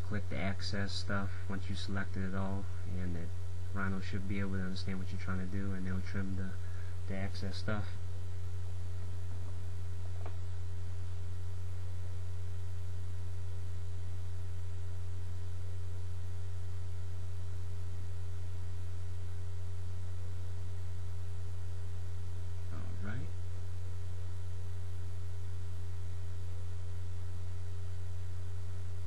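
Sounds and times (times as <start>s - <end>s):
faint steady tones: 0.0s - 29.0s
low electrical hum: 0.0s - 29.0s.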